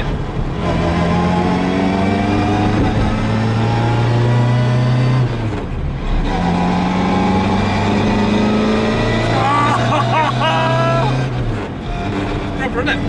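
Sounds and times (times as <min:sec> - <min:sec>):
car engine pulling: 0:00.0 - 0:13.0.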